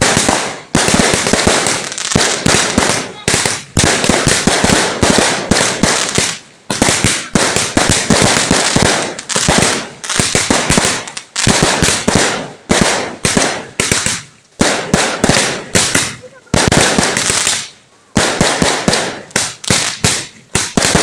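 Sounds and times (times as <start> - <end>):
firecrackers cracking: 0.0 - 21.0.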